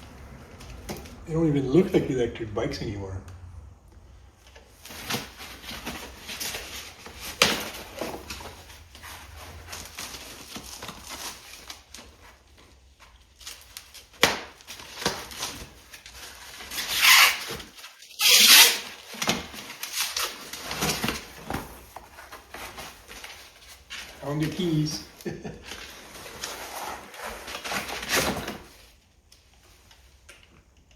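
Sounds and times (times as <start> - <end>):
packaging rustling: 4.4 - 30.6.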